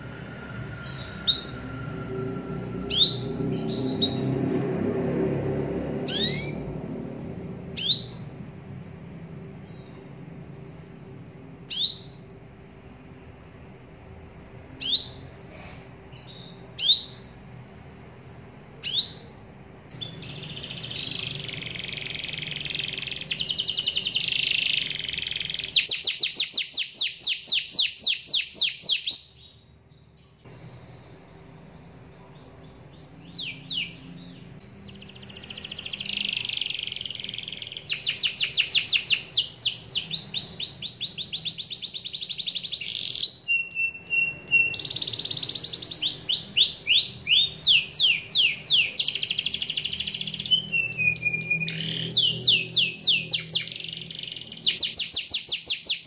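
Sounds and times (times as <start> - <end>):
canary singing with trills: 0.0 - 4.6, 6.1 - 6.9, 7.7 - 8.4, 11.7 - 12.4, 14.6 - 15.4, 16.0 - 17.5, 18.8 - 56.0.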